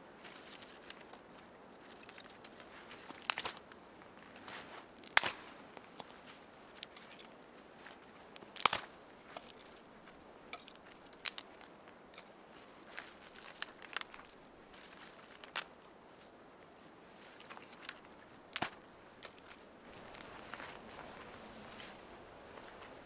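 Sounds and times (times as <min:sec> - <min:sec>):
twigs crackling and rustling: 0:00.0 - 0:23.0
twigs snapping: 0:00.2 - 0:15.9, 0:17.2 - 0:21.2.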